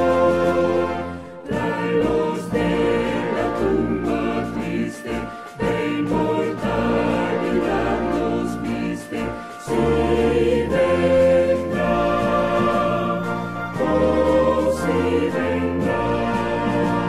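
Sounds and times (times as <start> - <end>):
choir singing a hymn: 0.0 - 17.0
instrumental accompaniment: 0.0 - 17.0.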